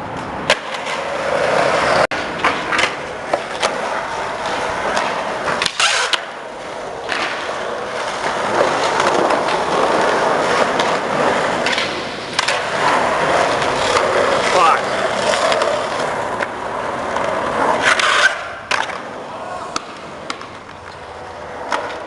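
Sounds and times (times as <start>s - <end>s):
skateboard clacking on ground: 0.0s - 22.0s
skateboard wheels rolling on concrete: 0.0s - 22.0s.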